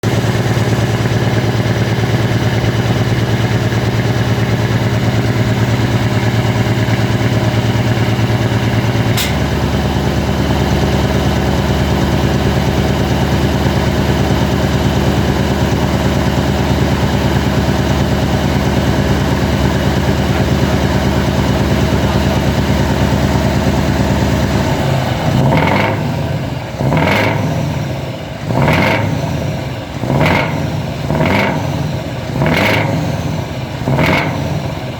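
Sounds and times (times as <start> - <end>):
engine revving: 0.0 - 34.9
truck engine idling: 0.0 - 34.9.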